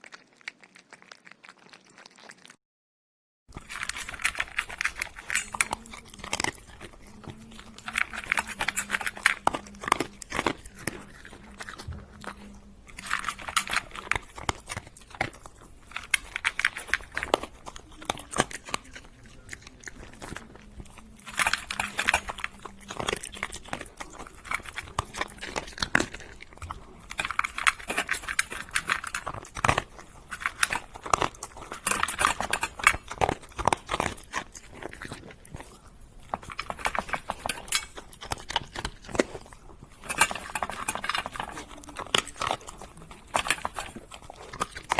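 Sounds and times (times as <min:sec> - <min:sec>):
crunchy food chewing: 0:00.0 - 0:02.6, 0:03.5 - 0:44.9.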